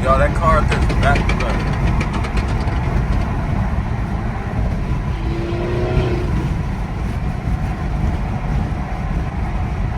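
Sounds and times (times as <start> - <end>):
car engines rumbling: 0.0 - 9.9.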